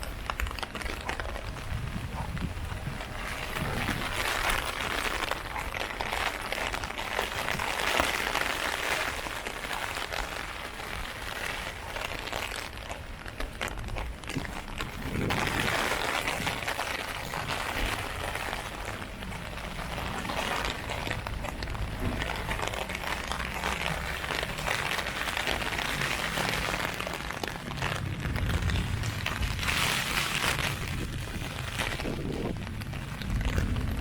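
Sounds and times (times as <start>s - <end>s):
heavy rain on an umbrella: 0.0s - 34.0s.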